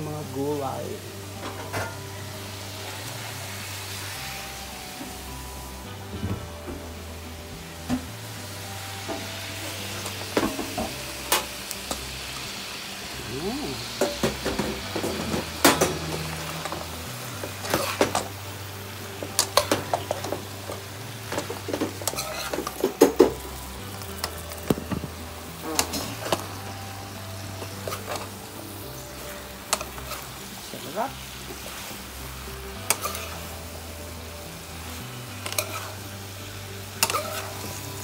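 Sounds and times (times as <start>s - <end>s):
vegetables sizzling in a pan: 0.0s - 38.0s.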